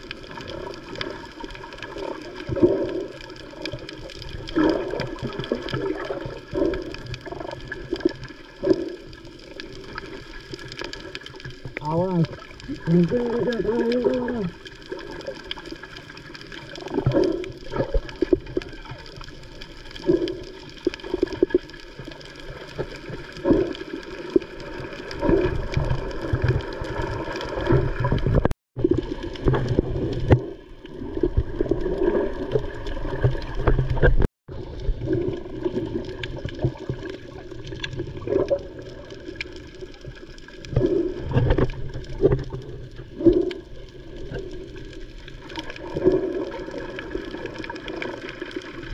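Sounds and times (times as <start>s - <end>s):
underwater churning and bubbling: 0.0s - 48.9s.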